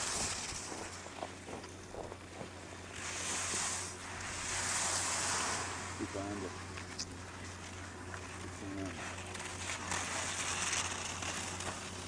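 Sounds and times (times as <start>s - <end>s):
skis scraping on hard snow: 0.0s - 1.7s, 2.9s - 12.0s.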